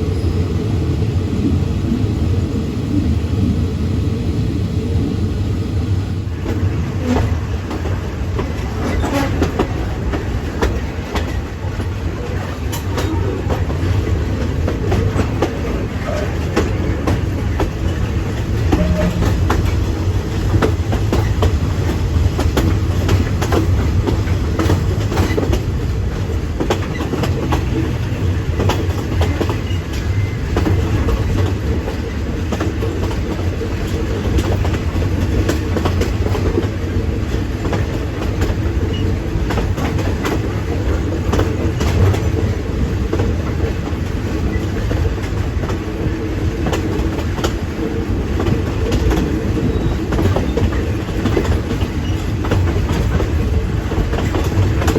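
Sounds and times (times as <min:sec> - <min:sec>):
train low rumble: 0:00.0 - 0:54.9
wheels clattering on track: 0:05.2 - 0:54.9.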